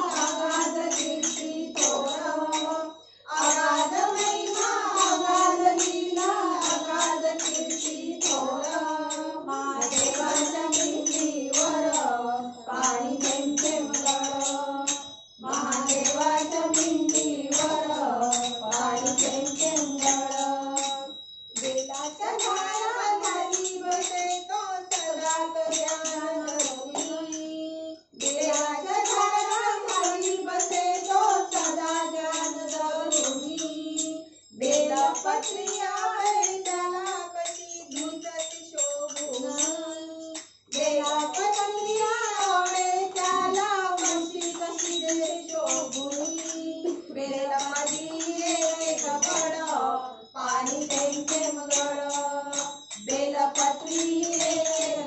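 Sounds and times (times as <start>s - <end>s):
women singing together: 0.0s - 55.0s.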